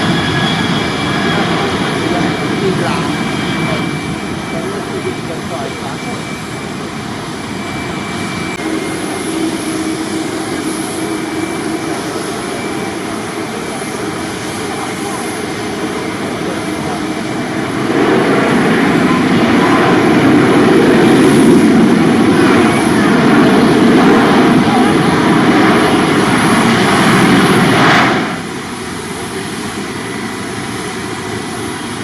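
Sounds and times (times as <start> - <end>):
jet engine rush: 0.0 - 32.0.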